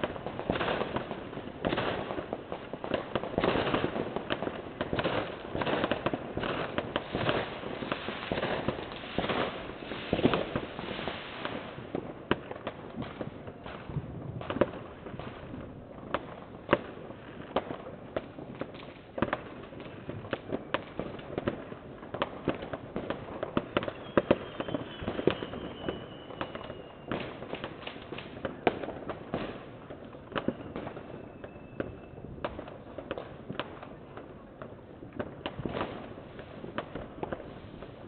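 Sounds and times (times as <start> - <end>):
faint firework whistles: 0.0 - 17.8, 18.6 - 34.2, 35.1 - 38.0
fireworks cracking and banging: 0.0 - 38.0.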